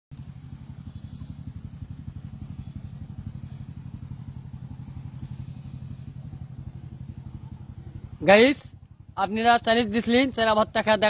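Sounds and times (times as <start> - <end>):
engine idling: 0.1 - 11.0.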